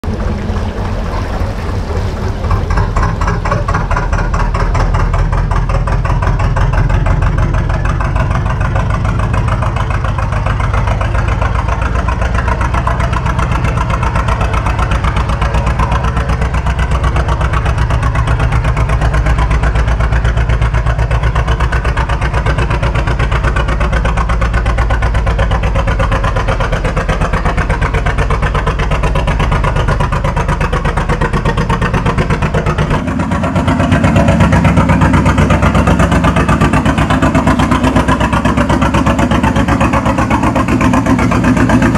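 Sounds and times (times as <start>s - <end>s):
diesel engine running slowly: 0.0s - 41.9s.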